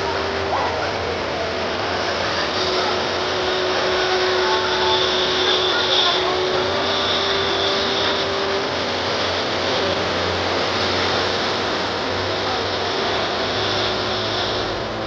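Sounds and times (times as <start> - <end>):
faint high whine: 0.0 - 15.0
turboprop engines in flight: 0.0 - 15.0.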